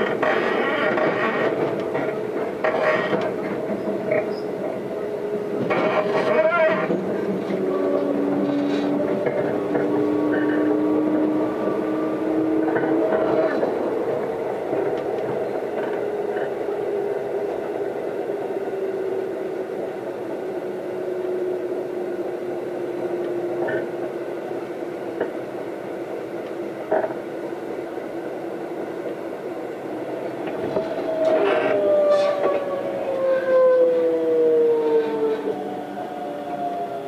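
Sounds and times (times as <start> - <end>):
train motor whine: 0.0 - 37.0
train rumbling: 0.0 - 37.0.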